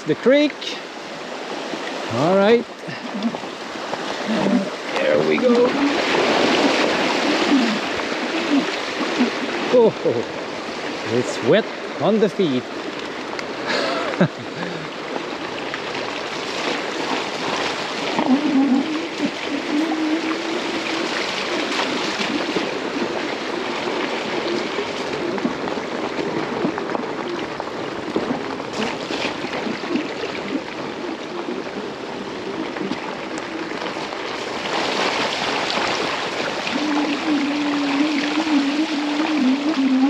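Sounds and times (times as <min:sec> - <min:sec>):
water running down track: 0:00.0 - 0:40.0.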